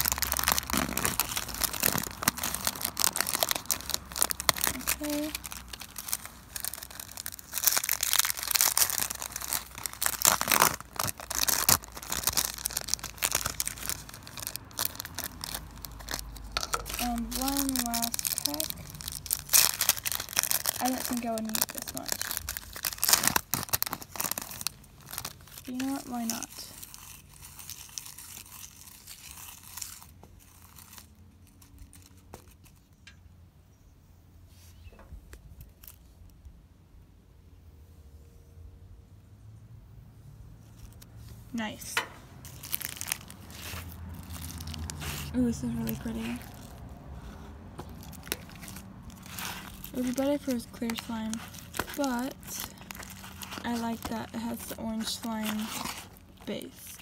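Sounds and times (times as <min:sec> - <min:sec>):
sequins sprinkling into slime: 0:00.0 - 0:32.2, 0:42.4 - 0:57.0
plastic packet crinkling: 0:00.0 - 0:33.0, 0:40.8 - 0:57.0.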